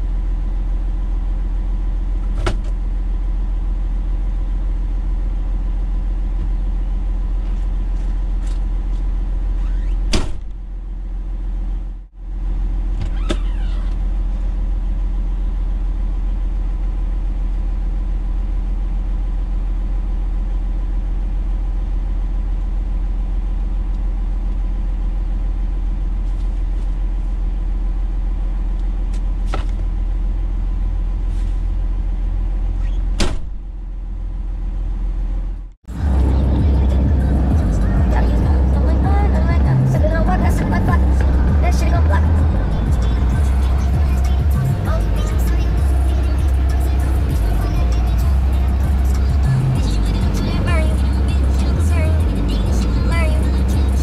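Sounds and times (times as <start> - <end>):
truck engine droning: 0.0 - 54.0.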